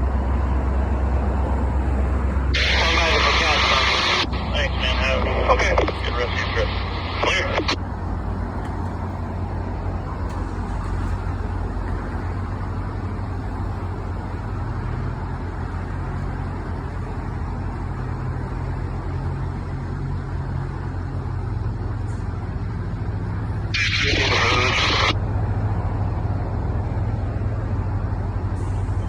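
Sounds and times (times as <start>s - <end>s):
diesel locomotive engine running: 0.0s - 29.0s.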